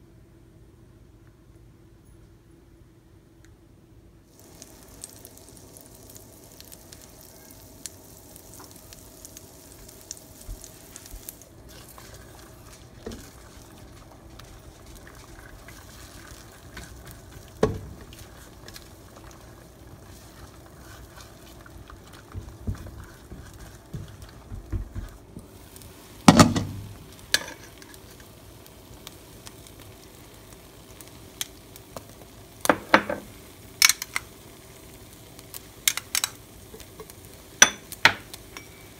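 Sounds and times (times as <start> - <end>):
eggs sizzling in frying pan: 4.3 - 38.9.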